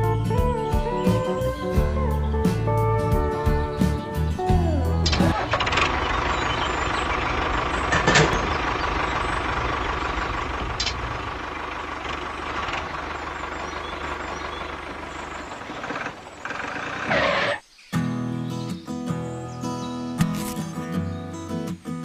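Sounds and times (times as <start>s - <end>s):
tractor engine running: 0.0s - 17.6s.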